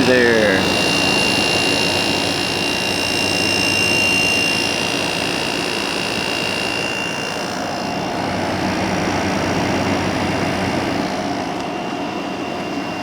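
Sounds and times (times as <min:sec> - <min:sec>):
air conditioner running: 0:00.0 - 0:13.0
thin high whine: 0:00.0 - 0:13.0.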